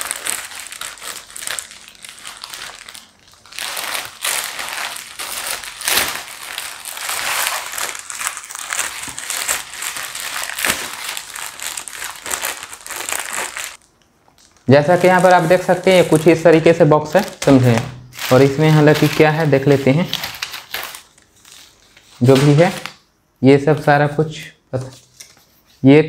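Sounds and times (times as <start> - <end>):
plastic bag crinkling: 0.0 - 22.9.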